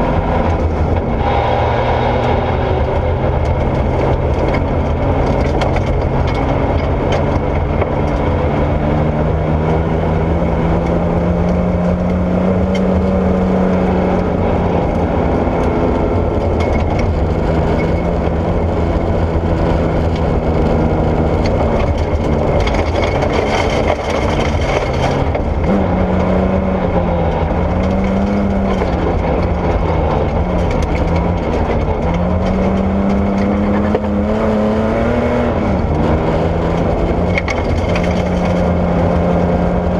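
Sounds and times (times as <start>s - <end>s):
rally car engine running hard: 0.0s - 39.9s
tyres rumbling on gravel: 0.0s - 39.9s.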